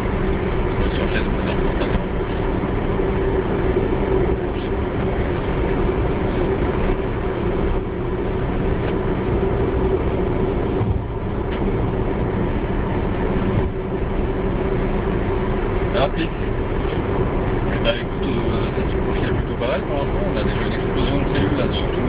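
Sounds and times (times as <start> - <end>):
car interior drone: 0.0 - 22.0
road rumble: 0.0 - 22.0.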